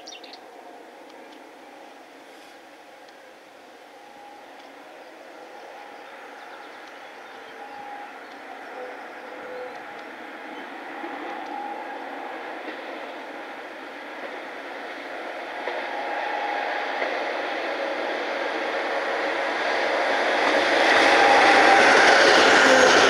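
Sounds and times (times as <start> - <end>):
diesel locomotive approaching: 0.0 - 23.0
train wheels on rails: 0.0 - 23.0.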